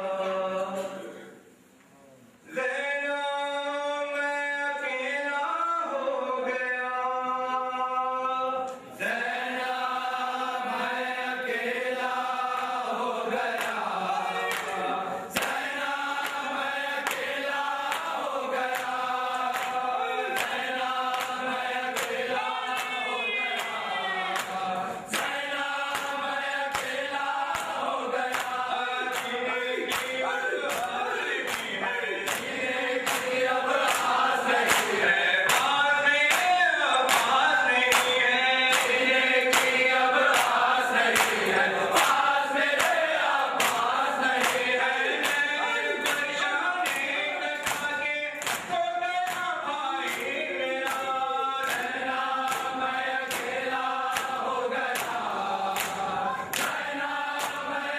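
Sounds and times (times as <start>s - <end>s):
men chanting a lament: 0.0s - 1.4s, 2.5s - 57.9s.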